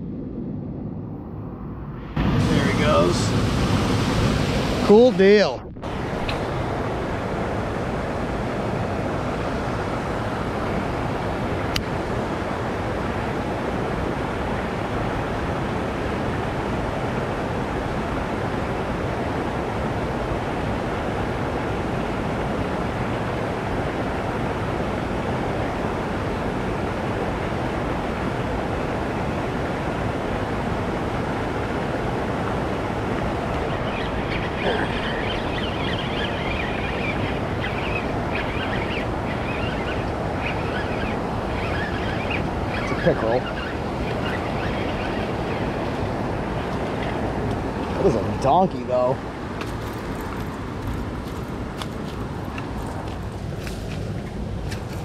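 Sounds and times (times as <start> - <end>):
steady rushing noise: 0.0 - 21.6, 22.3 - 55.0.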